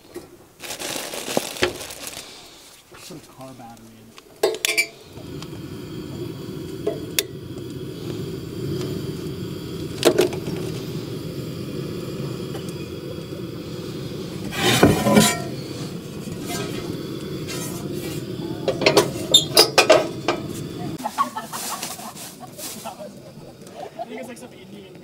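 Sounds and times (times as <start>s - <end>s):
gas stove flame rushing: 1.7s - 25.0s.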